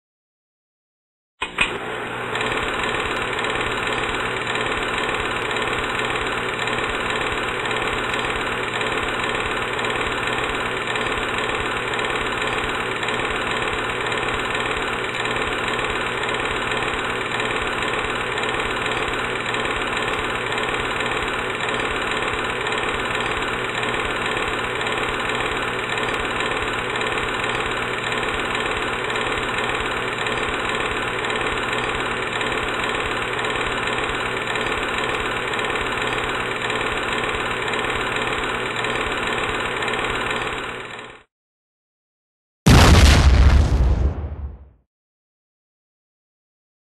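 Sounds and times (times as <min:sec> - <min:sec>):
engine running steadily: 0:01.4 - 0:41.2.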